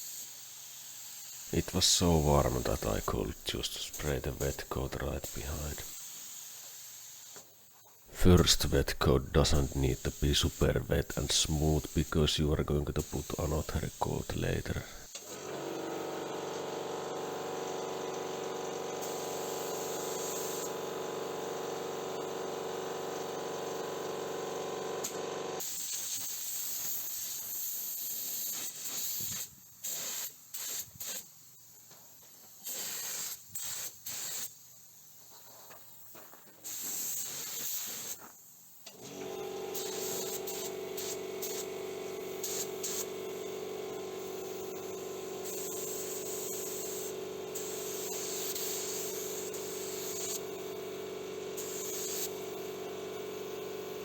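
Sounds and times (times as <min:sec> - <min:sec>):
paint spray gun hissing: 0:00.0 - 0:22.0, 0:23.0 - 0:35.3, 0:35.9 - 0:54.0.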